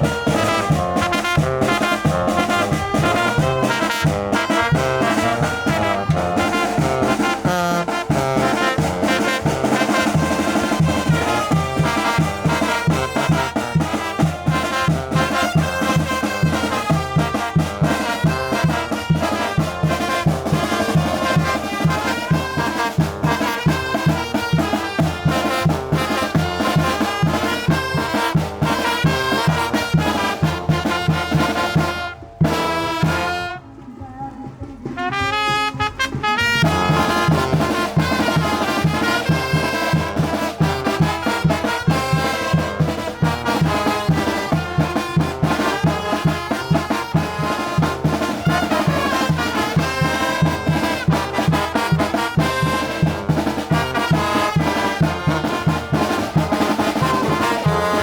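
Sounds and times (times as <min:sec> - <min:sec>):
brass band playing: 0:00.0 - 0:34.0, 0:34.8 - 0:58.0.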